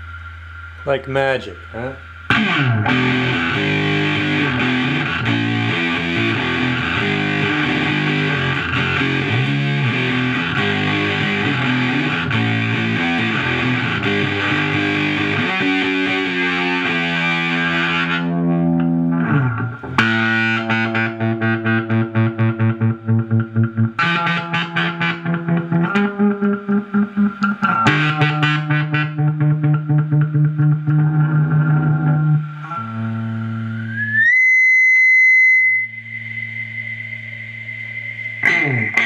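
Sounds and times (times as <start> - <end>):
fuzzed electric guitar: 0.0 - 39.0.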